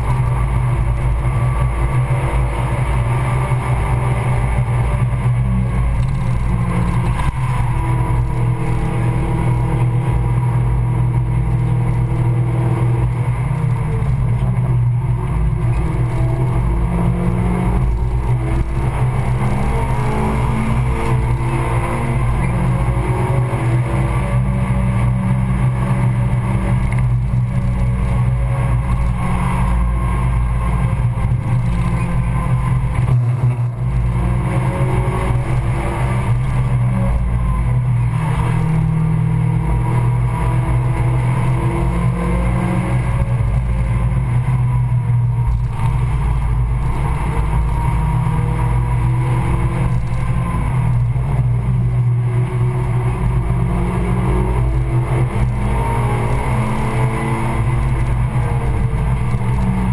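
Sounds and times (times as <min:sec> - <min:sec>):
car engine revving: 0:00.0 - 0:59.9
tyre and wind noise: 0:00.0 - 0:59.9.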